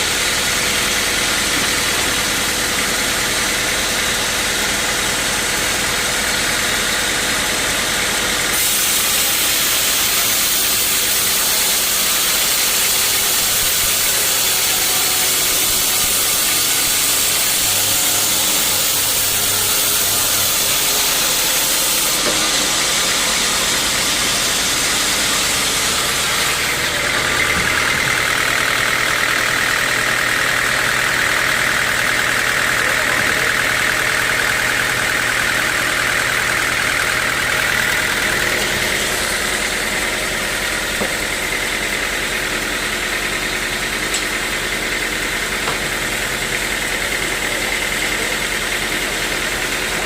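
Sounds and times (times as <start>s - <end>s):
sawmill machinery hissing: 0.0s - 50.0s.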